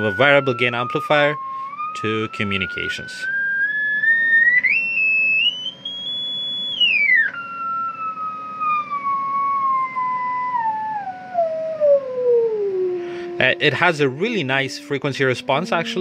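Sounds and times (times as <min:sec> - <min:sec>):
test tone from radio speaker: 0:00.0 - 0:16.0.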